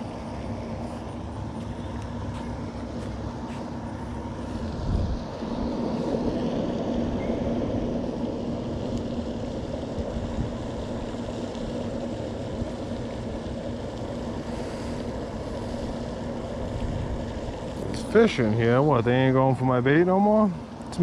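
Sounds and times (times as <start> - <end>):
machine drone with low hum: 0.0 - 21.0.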